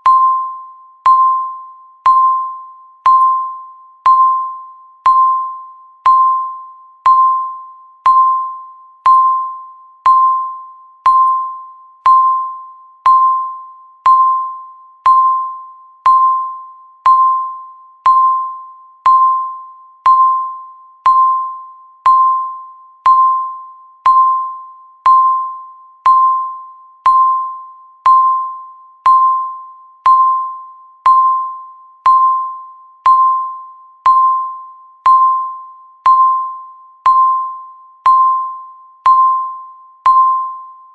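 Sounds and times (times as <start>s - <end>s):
countdown timer beeping: 0.0s - 40.9s.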